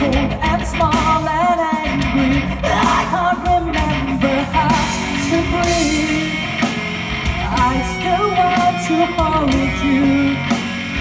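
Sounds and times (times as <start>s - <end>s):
live rock band playing: 0.0s - 11.0s
person singing: 0.0s - 11.0s.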